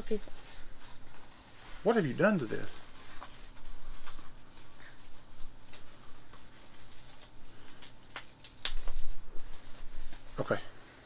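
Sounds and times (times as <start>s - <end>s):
plastic wrapper crinkling: 0.1s - 10.6s.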